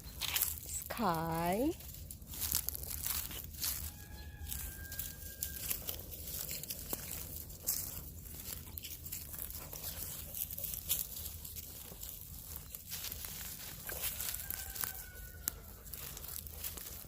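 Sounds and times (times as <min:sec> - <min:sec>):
footsteps crunching: 0:00.0 - 0:17.0.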